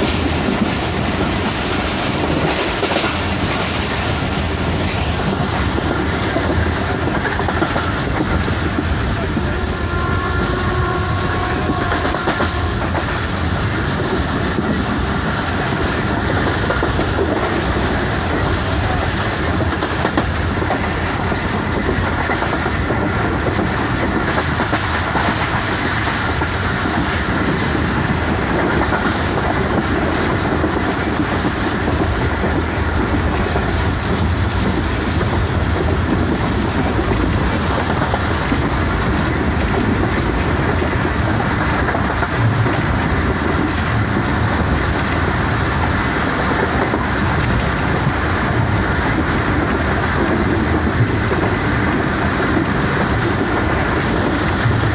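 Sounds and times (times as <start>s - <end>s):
train wheels on rails: 0.0s - 54.9s.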